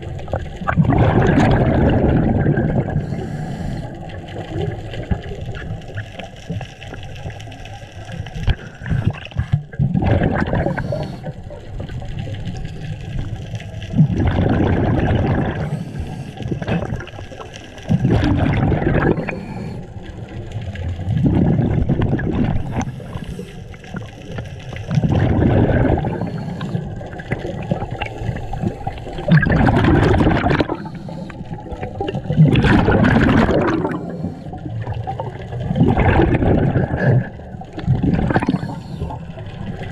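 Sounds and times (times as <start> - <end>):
underwater regulator bubbles: 0.0 - 39.9.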